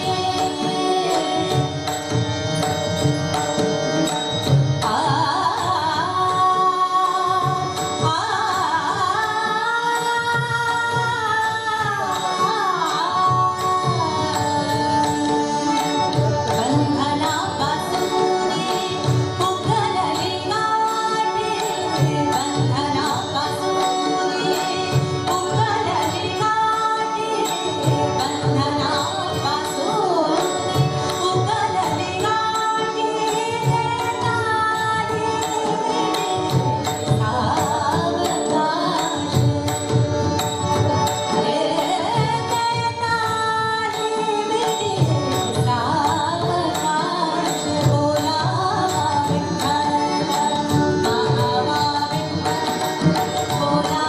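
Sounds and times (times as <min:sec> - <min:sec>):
woman singing: 0:00.0 - 0:03.1, 0:04.4 - 0:54.0
harmonium notes: 0:00.0 - 0:54.0.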